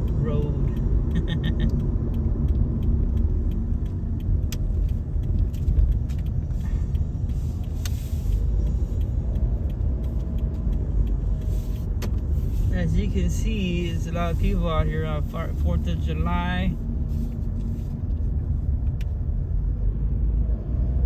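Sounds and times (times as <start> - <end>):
tyres and engine rumble: 0.0 - 21.0.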